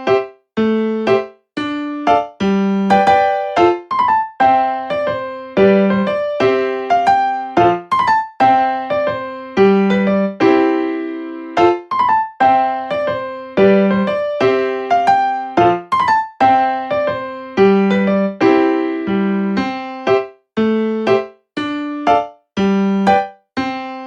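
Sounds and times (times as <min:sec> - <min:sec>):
keyboard playing light melody: 0:00.0 - 0:24.0.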